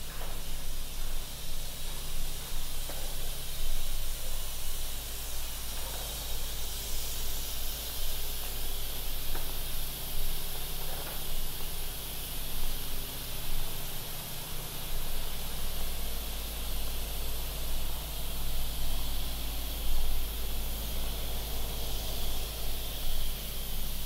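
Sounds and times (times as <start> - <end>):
street ambience hiss: 0.0 - 24.0.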